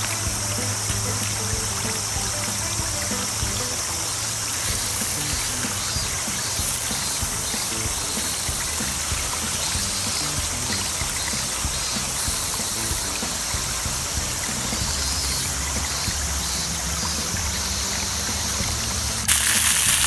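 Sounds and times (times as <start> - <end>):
background music: 0.0 - 20.0
steak sizzling in a frying pan: 0.0 - 20.0
stream running over rocks: 0.0 - 20.0.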